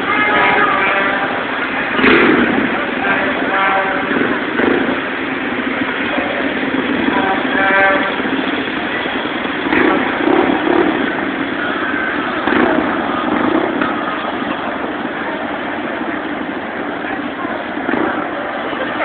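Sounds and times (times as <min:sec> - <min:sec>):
street noise: 0:00.0 - 0:19.0
vehicle engines revving: 0:00.0 - 0:19.0.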